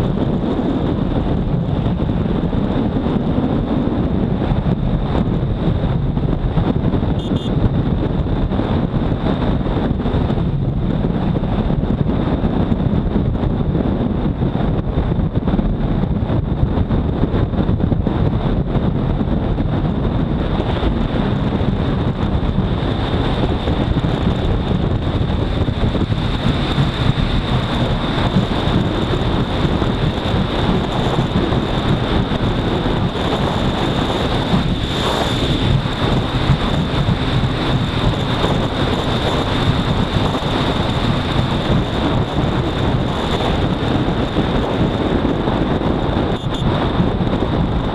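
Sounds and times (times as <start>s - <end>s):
motorcycle engine at high speed: 0.0s - 47.9s
wind rushing over microphone: 0.0s - 47.9s.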